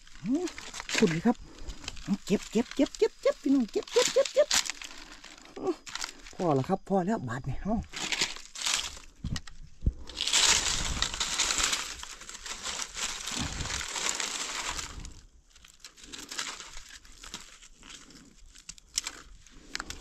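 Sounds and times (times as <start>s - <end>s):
dry leaves crackling and rustling: 0.0s - 6.6s, 7.8s - 9.2s, 10.0s - 20.0s.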